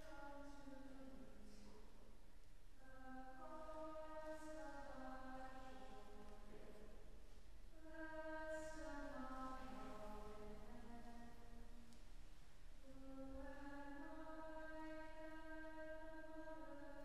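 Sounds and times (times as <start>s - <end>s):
faint hymn singing: 0.0s - 2.1s, 2.8s - 17.0s.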